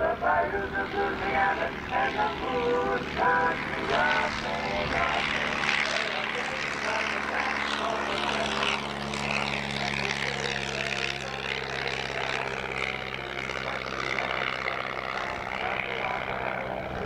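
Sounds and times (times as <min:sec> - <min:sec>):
propeller airplane engine droning: 0:00.0 - 0:17.0.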